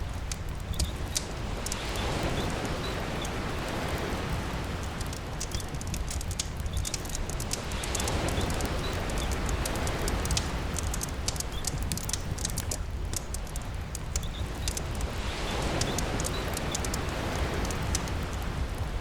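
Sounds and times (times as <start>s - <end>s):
campfire crackling and popping: 0.0s - 19.0s
sea waves: 0.0s - 19.0s
steady rain: 0.0s - 19.0s.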